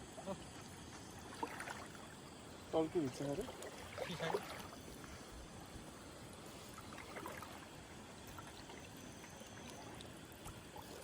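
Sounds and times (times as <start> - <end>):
water trickling and lapping: 0.0 - 11.0.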